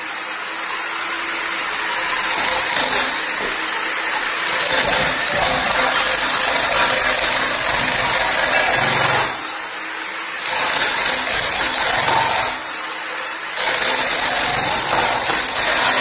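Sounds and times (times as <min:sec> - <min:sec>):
electric breaker hammering tiles: 0:00.9 - 0:12.8, 0:13.4 - 0:16.0.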